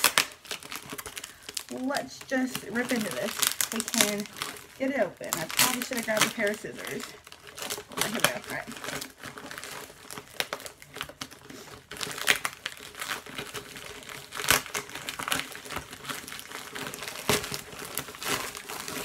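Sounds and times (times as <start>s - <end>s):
plastic mailer crinkling: 0.0s - 19.0s
plastic ripping: 0.0s - 19.0s.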